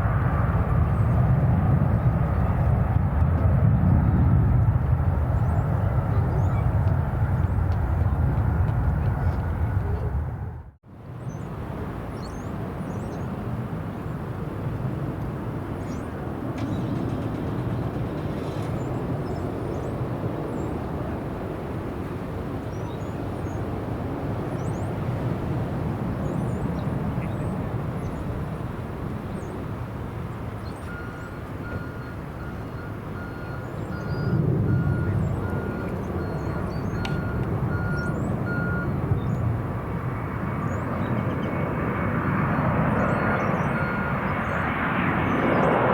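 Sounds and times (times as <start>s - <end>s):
distant airport and traffic rumble: 0.0s - 45.9s.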